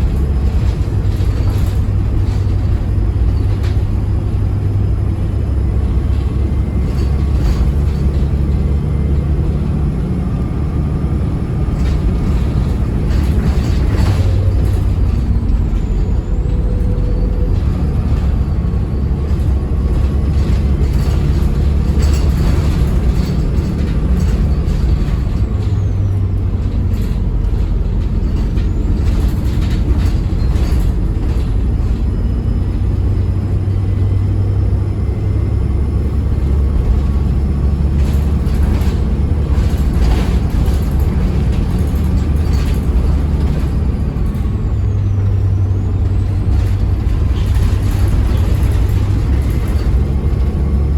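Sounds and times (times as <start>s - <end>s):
bodywork rattles and knocks: 0.0s - 50.9s
bus engine droning: 0.0s - 50.9s.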